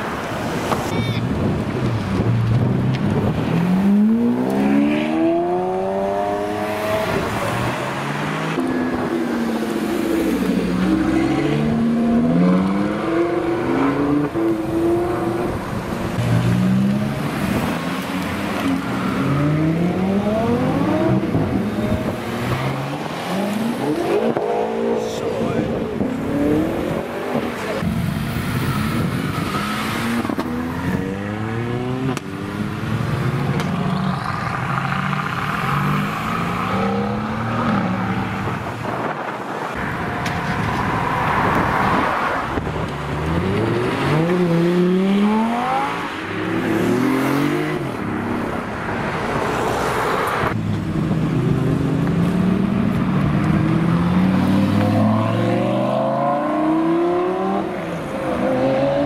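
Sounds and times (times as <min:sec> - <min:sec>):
sports car engines revving: 0:00.0 - 0:59.0.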